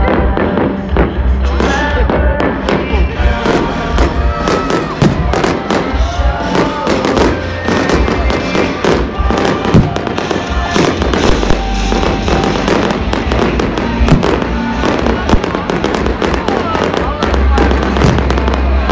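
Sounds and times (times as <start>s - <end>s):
deep fireworks booms: 0.0s - 18.9s
fireworks bangs and crackles: 0.0s - 18.9s
music playing: 0.0s - 18.9s.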